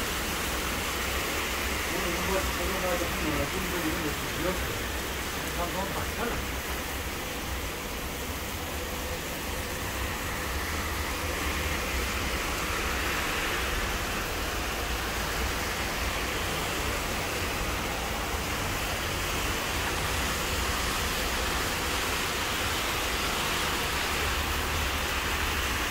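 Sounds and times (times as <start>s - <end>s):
car tyres on wet road: 0.0s - 25.9s
rain falling: 0.0s - 25.9s.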